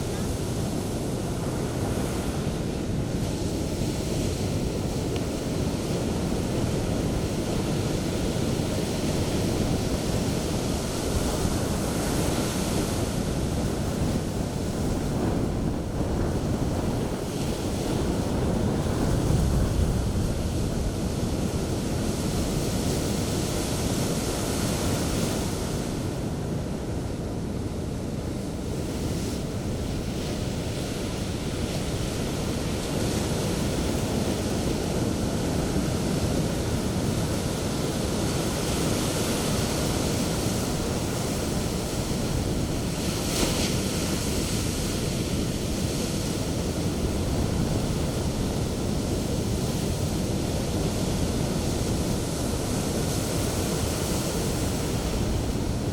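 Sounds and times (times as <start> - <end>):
sea waves breaking on shore: 0.0 - 55.9
wind rumbling on microphone: 0.0 - 55.9.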